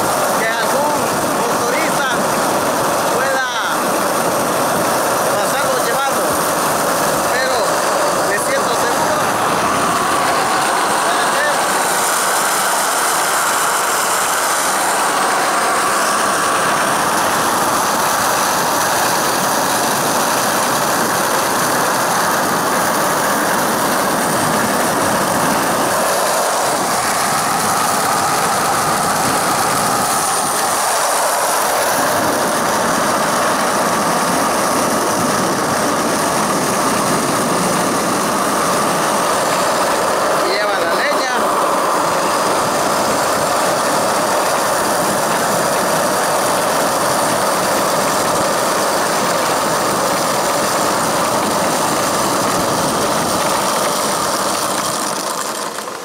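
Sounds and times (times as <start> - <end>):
ball bearing wheels rolling on asphalt: 0.0 - 56.0.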